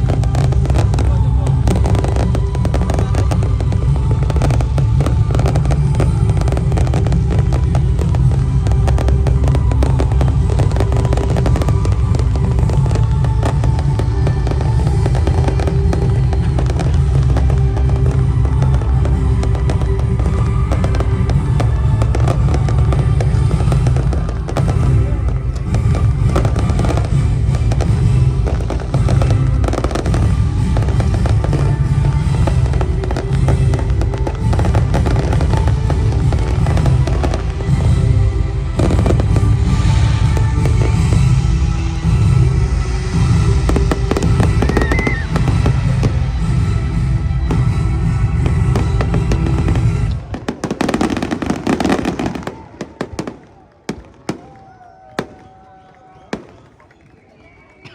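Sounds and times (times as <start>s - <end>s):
loud music playing: 0.0s - 53.4s
fireworks crackling and popping: 0.0s - 57.9s.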